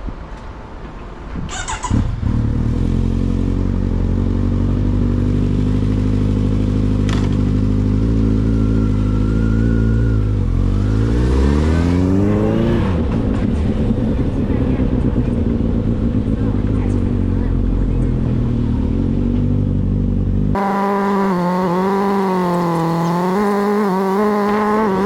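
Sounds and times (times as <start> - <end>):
motorcycle engine idling and revving: 1.5 - 25.0.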